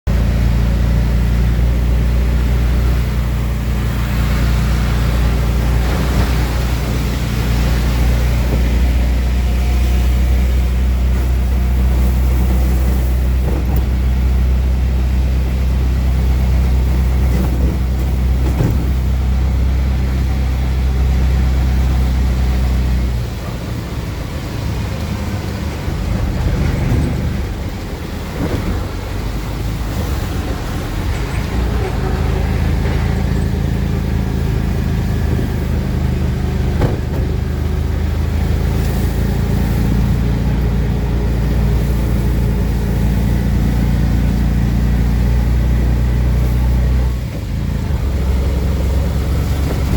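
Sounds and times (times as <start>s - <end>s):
auto rickshaw engine running: 0.0s - 49.9s
rain on wet road: 0.1s - 49.9s.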